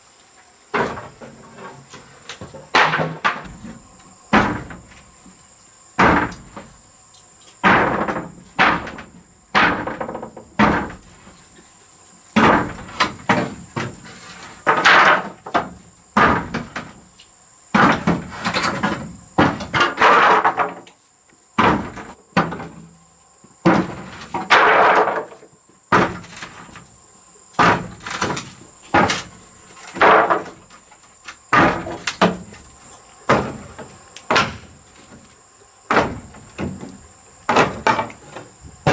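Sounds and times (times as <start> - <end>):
high insect buzz: 0.0 - 38.9
knocks bangs and scraping of repair: 0.7 - 6.8, 7.5 - 11.7, 12.3 - 21.0, 21.6 - 38.9.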